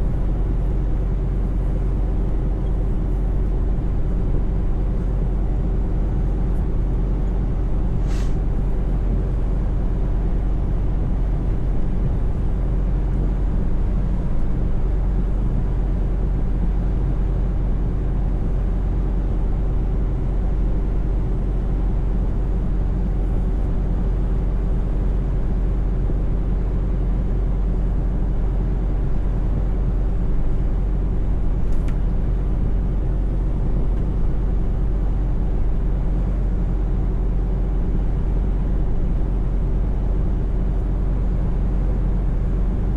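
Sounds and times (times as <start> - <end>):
diesel truck engine droning: 0.0 - 42.9
road rumble: 0.0 - 42.9.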